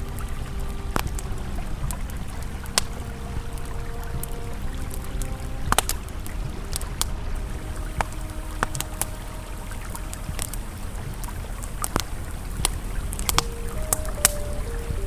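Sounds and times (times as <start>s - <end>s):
campfire crackling and popping: 0.0s - 15.0s
river flowing: 0.0s - 15.0s
soft ambient tone: 0.0s - 15.0s.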